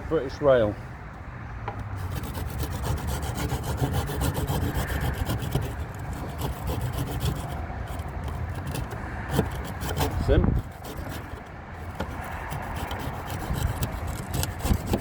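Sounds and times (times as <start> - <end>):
hand tool rasping wood: 1.8 - 15.0.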